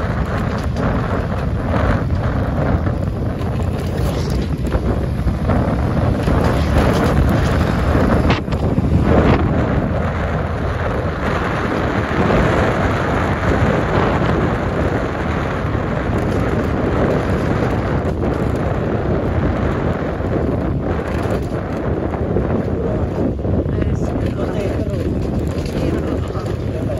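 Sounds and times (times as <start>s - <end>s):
wind rush buffeting microphone: 0.0s - 26.9s.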